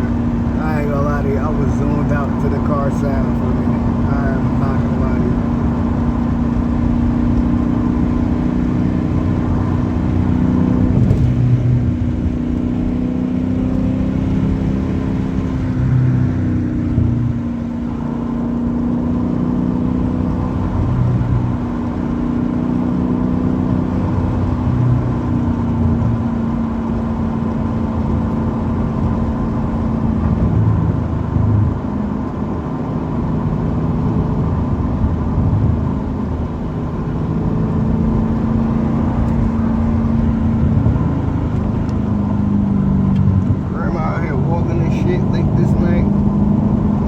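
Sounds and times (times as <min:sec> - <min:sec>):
car exhaust droning: 0:00.0 - 0:47.0.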